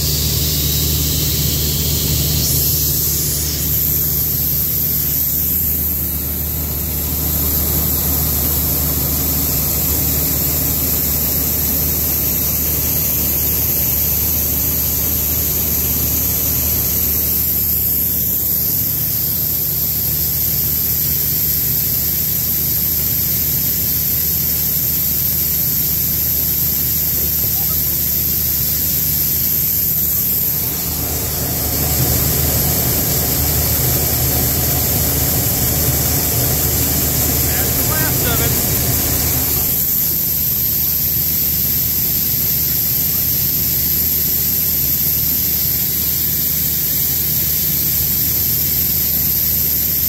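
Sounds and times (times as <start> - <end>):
combine harvester running: 0.0 - 41.6.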